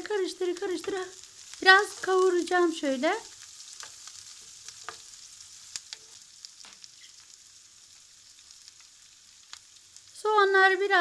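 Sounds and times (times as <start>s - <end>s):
onions sizzling in a frying pan: 0.0s - 11.0s.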